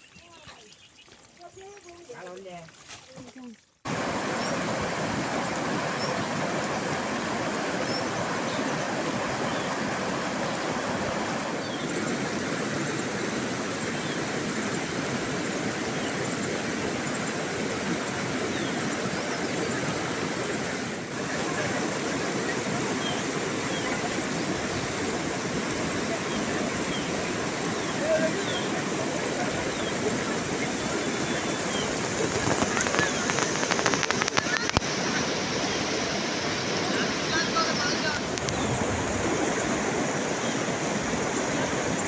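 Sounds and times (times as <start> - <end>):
water flowing: 0.0 - 42.0.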